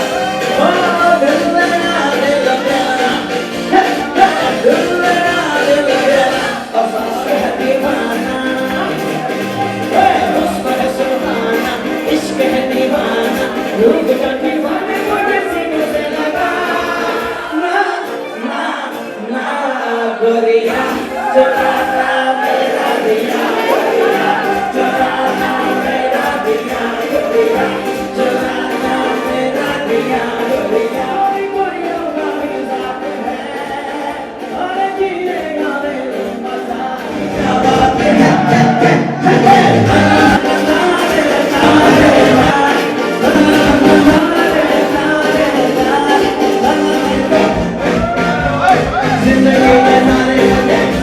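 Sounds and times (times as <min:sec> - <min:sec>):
voices singing together: 0:00.0 - 0:51.0.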